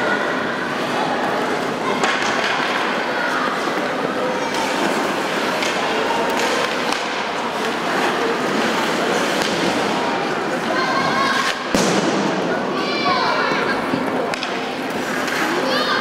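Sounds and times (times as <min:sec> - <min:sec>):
murmur of voices: 0:00.0 - 0:16.0
hockey sticks and puck clacking: 0:01.3 - 0:12.4, 0:13.8 - 0:16.0.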